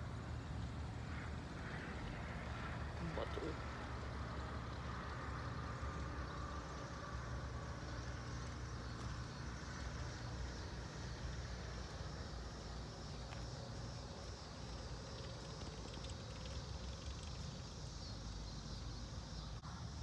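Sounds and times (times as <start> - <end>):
distant propeller plane drone: 0.0 - 20.0.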